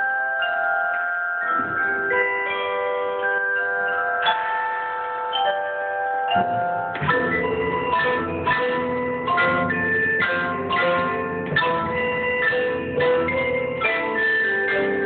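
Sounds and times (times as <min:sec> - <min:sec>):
mallet keyboards playing melody: 0:00.0 - 0:15.0.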